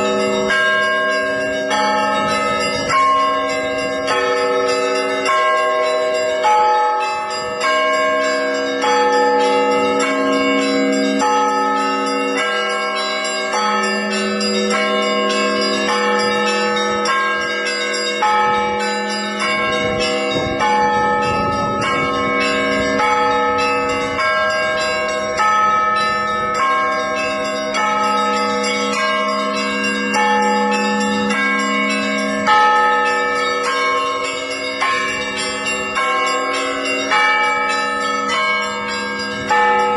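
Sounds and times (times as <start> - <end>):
deep bells humming: 0.0 - 39.9
small church bells pealing: 0.0 - 39.9.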